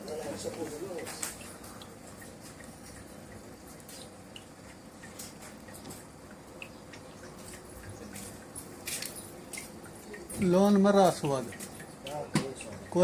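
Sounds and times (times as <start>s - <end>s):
oil dripping and trickling: 0.0s - 13.0s
small clicks and knocks: 1.0s - 12.9s.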